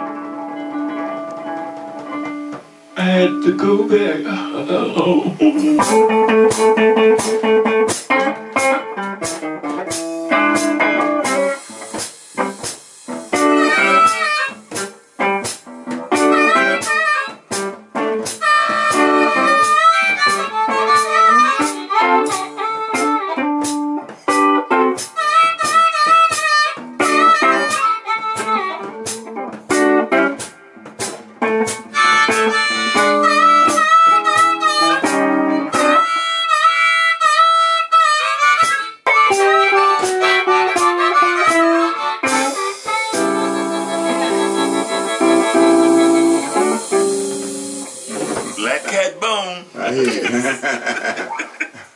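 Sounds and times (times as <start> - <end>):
amplified blues harmonica solo: 0.0 - 48.8
backing music: 0.0 - 48.8.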